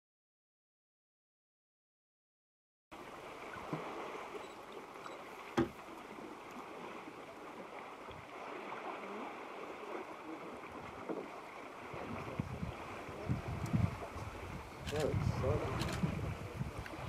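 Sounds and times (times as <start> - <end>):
river water around a canoe: 2.9 - 17.0.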